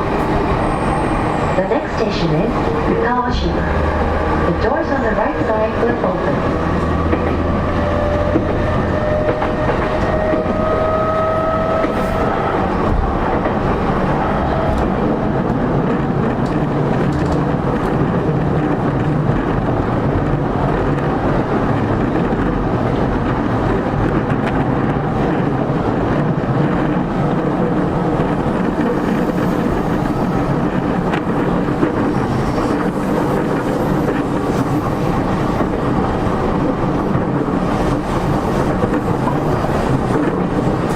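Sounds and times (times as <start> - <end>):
wheels rumbling on rail: 0.0 - 40.9
rail-joint clatter: 4.4 - 40.9.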